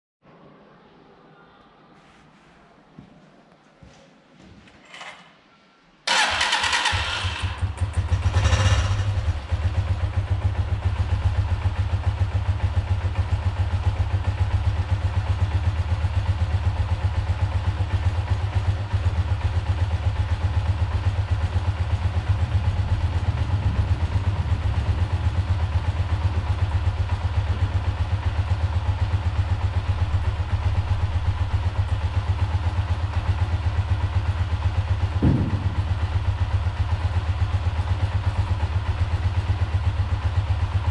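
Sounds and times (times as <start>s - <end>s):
motorcycle engine idling: 6.1s - 40.9s.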